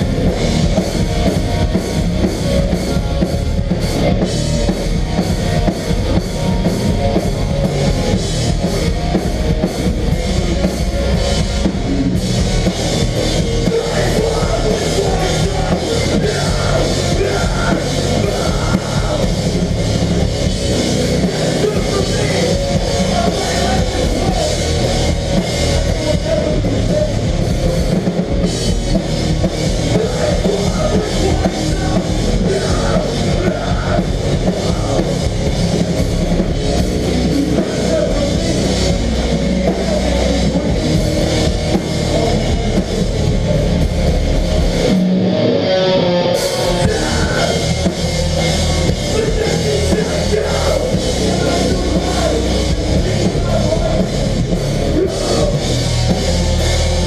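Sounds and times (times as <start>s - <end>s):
distorted electric guitars and bass: 0.0s - 57.0s
heavy rock drum kit: 0.0s - 57.0s.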